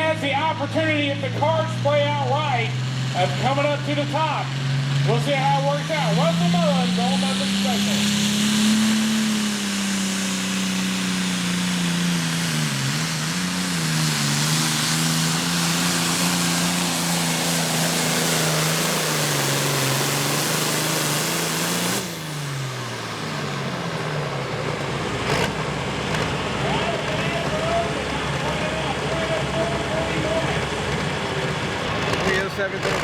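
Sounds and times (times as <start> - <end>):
tractor engine revving: 0.0 - 33.0.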